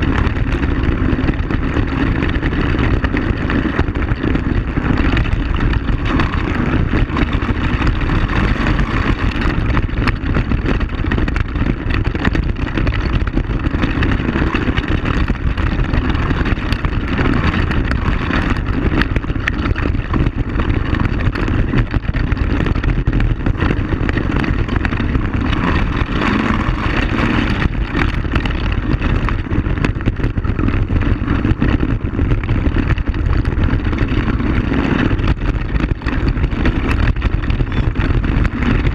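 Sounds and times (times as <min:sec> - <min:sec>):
knocks and rattles: 0:00.0 - 0:38.9
quad bike engine running: 0:00.0 - 0:38.9.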